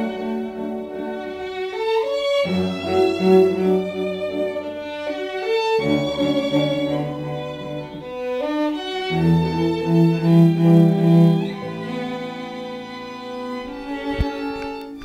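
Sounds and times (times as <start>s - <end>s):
classical bowed strings: 0.0s - 15.0s.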